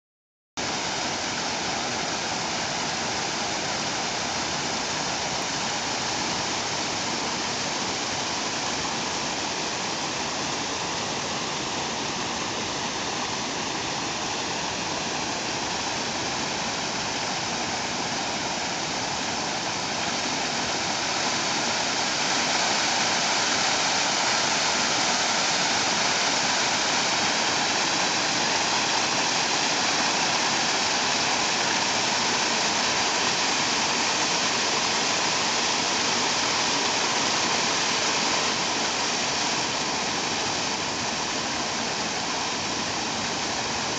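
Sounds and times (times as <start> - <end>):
water rushing over weir: 0.6 - 43.9.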